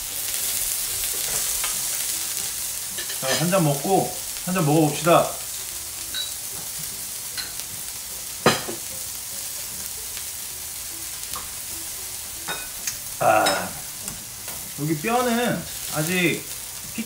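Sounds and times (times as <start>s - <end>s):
meat sizzling on grill plate: 0.0s - 17.0s.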